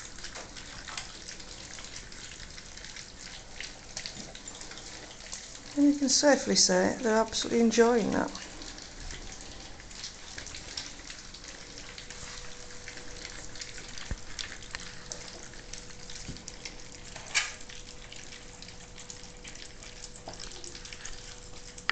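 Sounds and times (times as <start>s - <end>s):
puppies lapping and slurping food: 0.0s - 21.9s.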